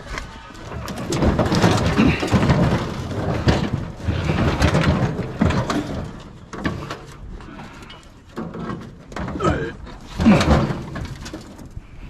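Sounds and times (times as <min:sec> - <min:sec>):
metal scrap clattering and scraping: 0:00.0 - 0:11.9.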